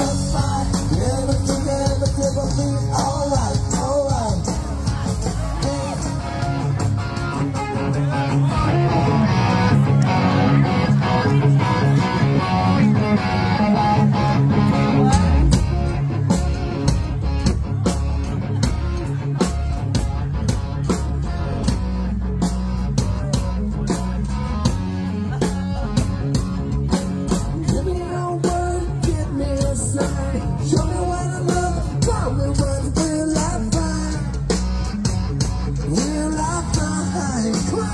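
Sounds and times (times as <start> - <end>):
steady drum beat: 0.0 - 10.0, 14.2 - 37.9
heavy bass line: 0.0 - 37.9
rock band playing live: 0.0 - 37.9.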